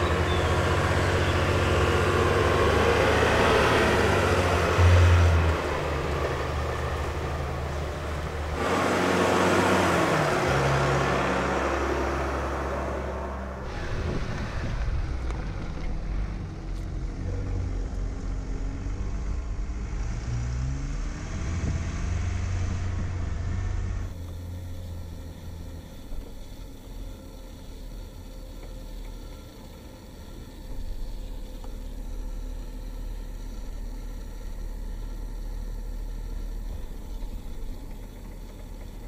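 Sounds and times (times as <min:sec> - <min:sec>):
suv engine rumbling: 0:00.0 - 0:39.0.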